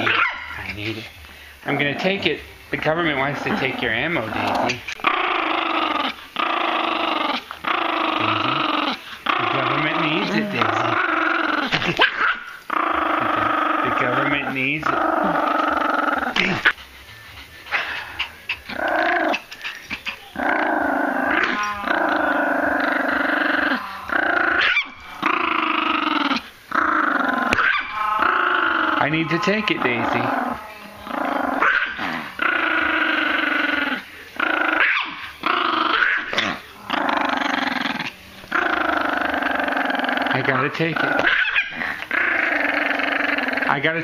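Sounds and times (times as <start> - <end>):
small dog growling: 3.1 - 16.8, 17.6 - 44.0.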